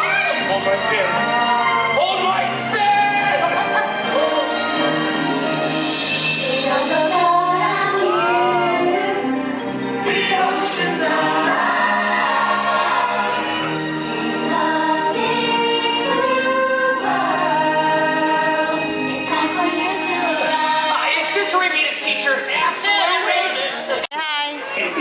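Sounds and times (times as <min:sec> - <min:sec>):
choir singing: 0:00.0 - 0:22.2
backing music: 0:00.0 - 0:25.0.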